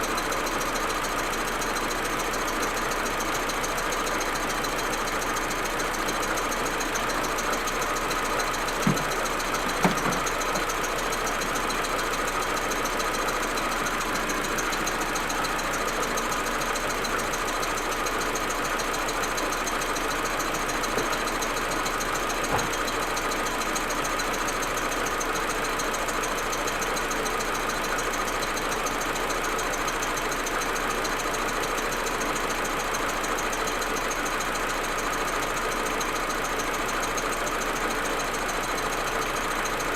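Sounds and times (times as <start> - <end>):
car engine idling roughly: 0.0 - 39.9
engine knocks: 0.1 - 39.9.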